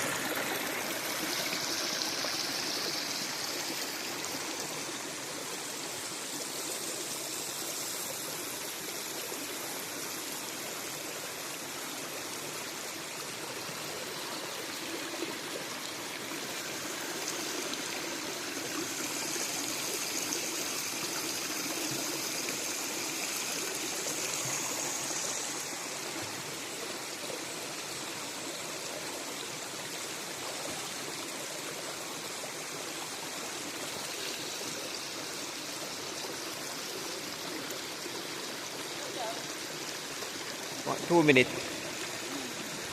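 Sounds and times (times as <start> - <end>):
river water running: 0.0 - 42.9.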